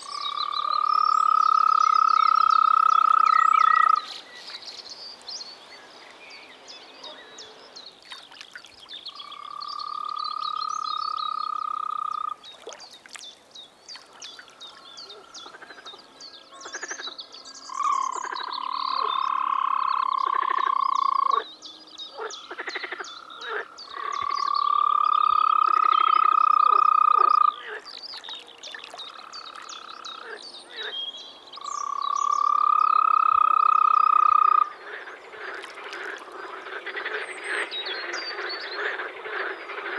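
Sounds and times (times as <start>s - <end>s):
toads trilling: 0.0s - 4.2s, 8.0s - 12.8s, 14.0s - 17.1s, 17.7s - 21.5s, 22.1s - 30.9s, 31.6s - 39.9s.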